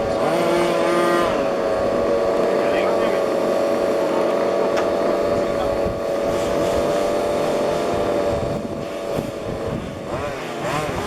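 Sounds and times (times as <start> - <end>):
small engines revving: 0.0 - 11.0.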